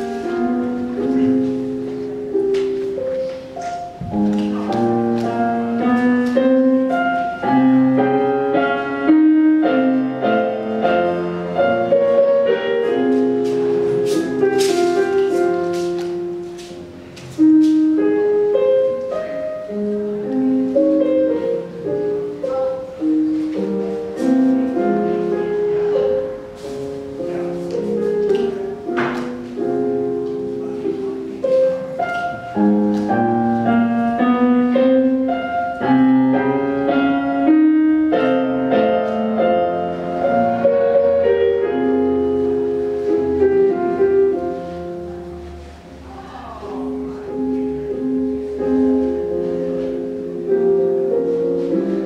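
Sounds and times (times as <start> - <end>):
slow piano melody: 0.0 - 52.0.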